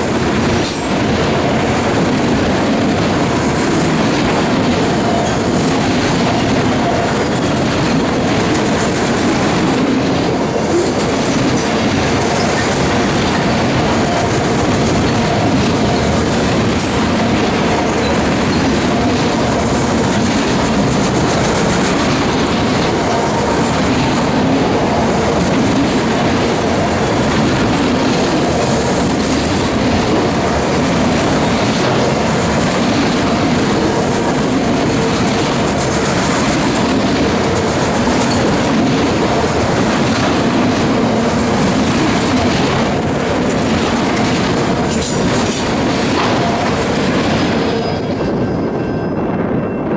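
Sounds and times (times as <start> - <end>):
clickety-clack over rail joints: 0.0 - 49.9
train wheels rumbling on rail: 0.0 - 49.9.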